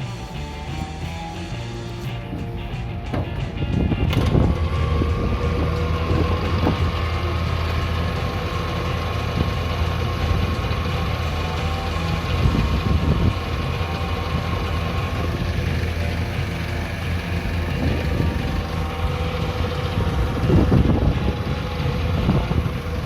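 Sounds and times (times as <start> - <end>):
steady whine: 0.0 - 23.0
truck engine running: 0.0 - 23.0.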